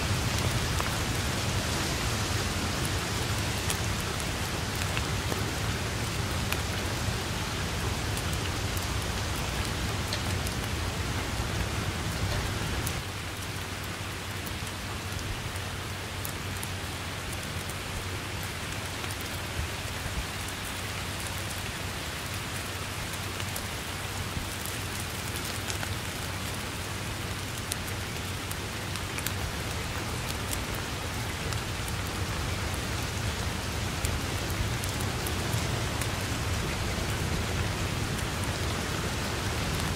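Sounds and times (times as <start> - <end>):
close raindrops ticking: 0.0 - 39.9
rain falling on grass and leaves: 0.0 - 39.9.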